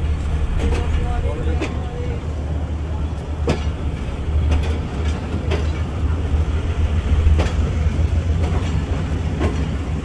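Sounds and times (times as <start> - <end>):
train rumbling: 0.0 - 10.0
wheels clicking over rail joints: 0.0 - 10.0.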